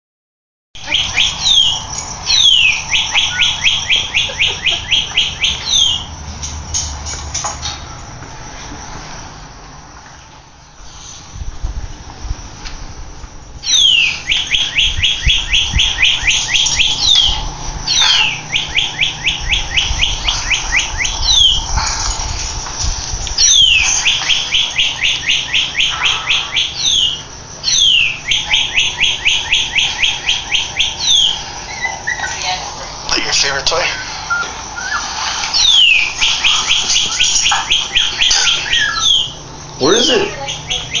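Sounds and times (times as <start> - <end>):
recorded cardinal song: 0.8 - 7.0, 13.6 - 22.7, 23.3 - 41.0.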